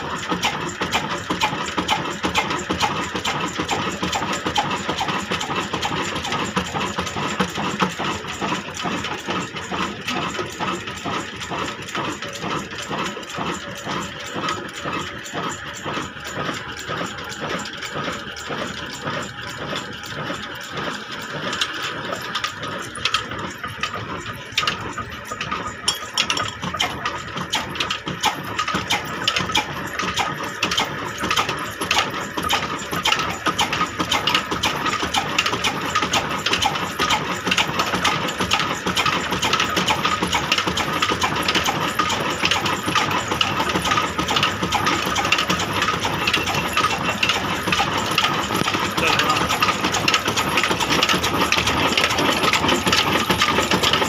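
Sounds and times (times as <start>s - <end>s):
diesel engine knocking: 0.0s - 54.0s.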